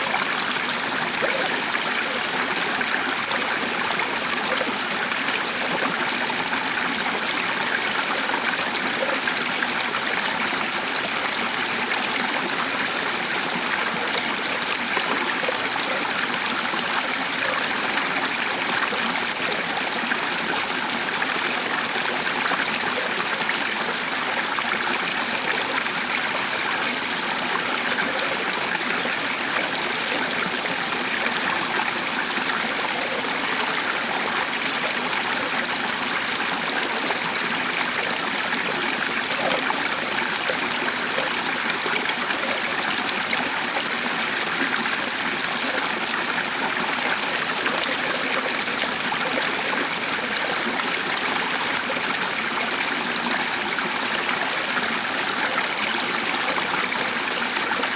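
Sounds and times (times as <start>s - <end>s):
stream of water running: 0.0s - 57.9s.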